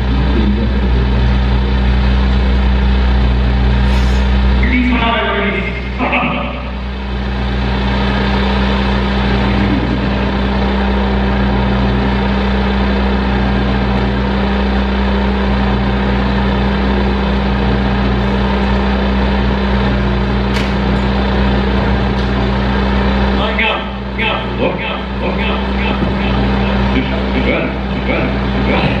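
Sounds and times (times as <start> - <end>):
synthesizer drone with hiss: 0.0 - 29.0.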